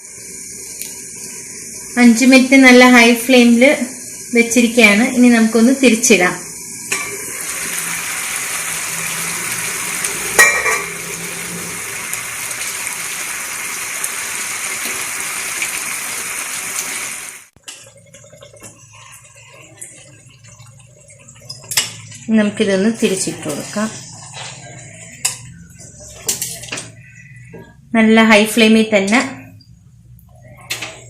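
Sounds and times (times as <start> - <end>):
chicken sizzling in a pan: 0.0 - 27.2.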